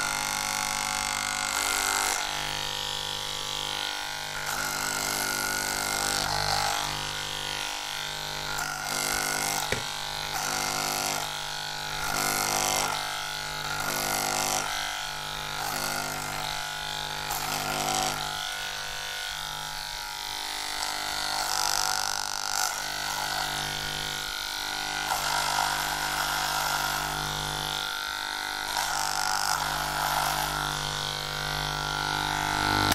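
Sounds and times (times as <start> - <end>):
electric hair clippers buzzing: 0.0 - 32.9
hiss of hair being cut: 0.0 - 32.9.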